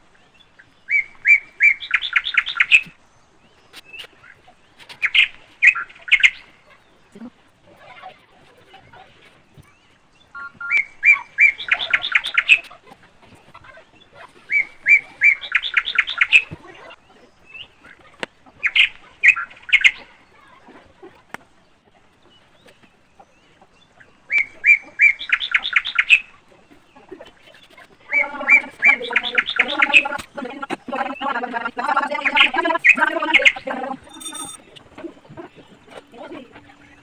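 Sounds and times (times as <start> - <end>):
bird singing with trill: 0.1 - 7.2, 9.5 - 12.7, 13.8 - 20.4, 22.2 - 37.0.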